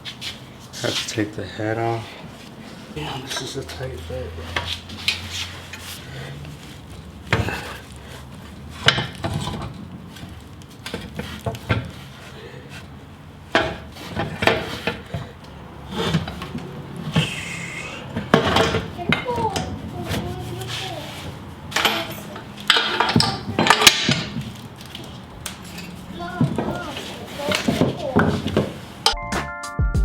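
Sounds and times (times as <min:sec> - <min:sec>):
metal scraping: 0:00.1 - 0:29.1
metal clanks and knocks: 0:02.9 - 0:29.2.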